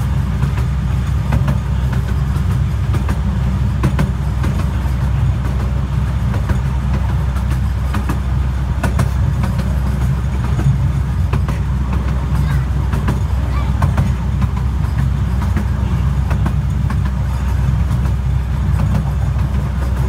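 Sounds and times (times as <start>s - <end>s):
wheels clicking over rail joints: 0.0s - 20.0s
wheels rumbling on rail: 0.0s - 20.0s.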